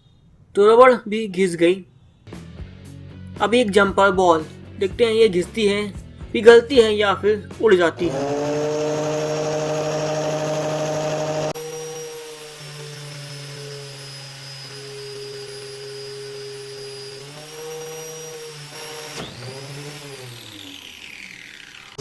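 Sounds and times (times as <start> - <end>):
angle grinder whining: 3.4 - 22.0.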